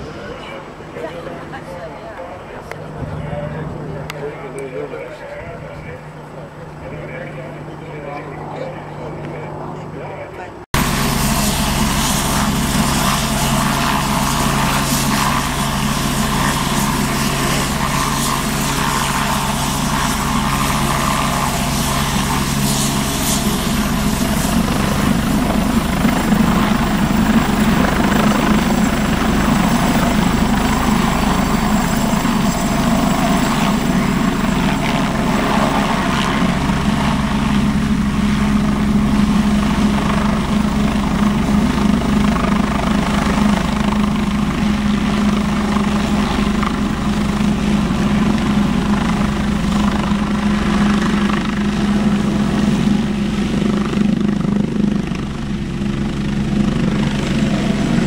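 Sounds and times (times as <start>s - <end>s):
helicopter rotor drone: 0.0s - 58.0s
helicopter turbine whine: 0.0s - 58.0s.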